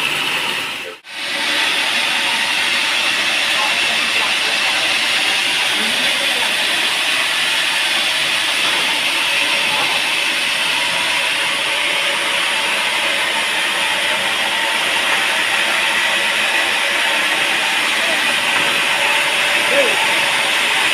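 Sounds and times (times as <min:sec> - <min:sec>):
saw cutting wood: 0:00.0 - 0:20.9.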